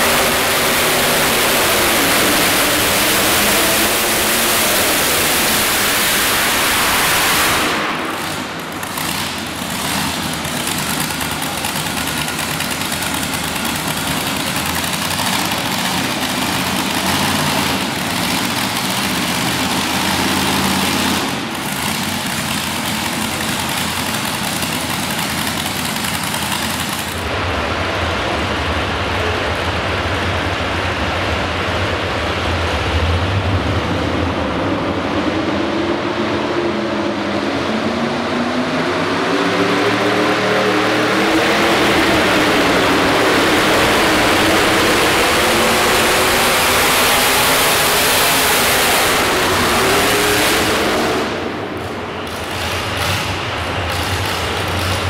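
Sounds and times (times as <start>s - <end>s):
tractor engine revving under load: 0.0s - 27.3s, 35.8s - 55.0s
tractor engines running loud: 0.0s - 55.0s.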